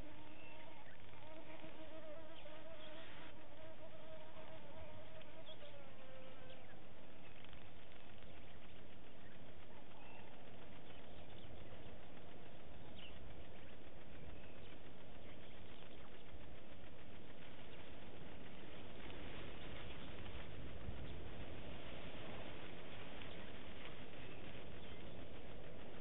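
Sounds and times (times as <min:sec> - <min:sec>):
flying insect buzzing: 0:00.0 - 0:09.4, 0:10.1 - 0:26.0
steady background hiss: 0:00.0 - 0:26.0.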